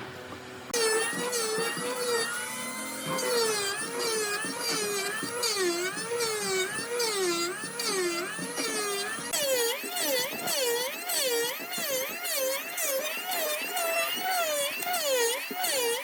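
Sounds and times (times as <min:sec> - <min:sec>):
power tool motor whining: 0:00.7 - 0:16.0.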